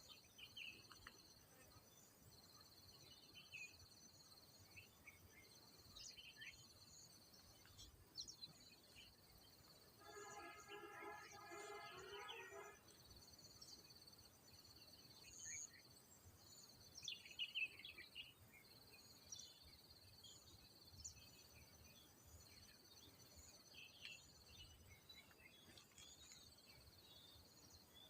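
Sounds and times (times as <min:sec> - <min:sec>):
bird calls and chirps: 0:00.0 - 0:28.0.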